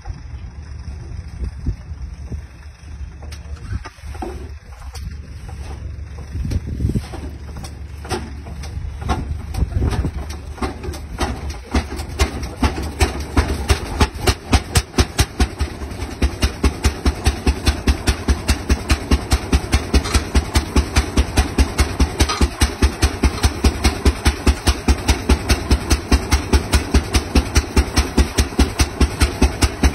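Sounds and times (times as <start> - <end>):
tractor engine exhaust beating: 0.0 - 29.9.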